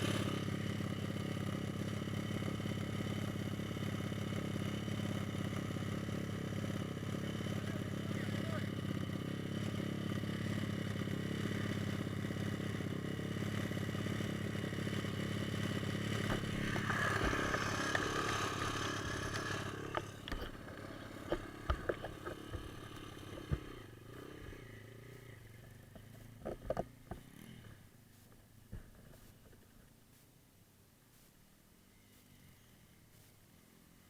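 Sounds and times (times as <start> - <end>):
small engine running: 0.0 - 29.4, 31.8 - 34.0.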